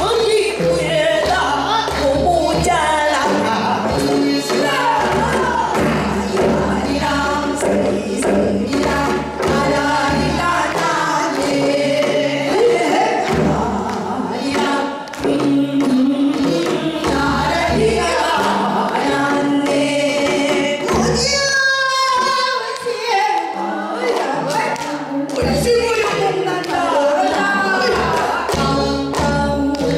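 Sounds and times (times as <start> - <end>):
women singing folk song: 0.0 - 29.9.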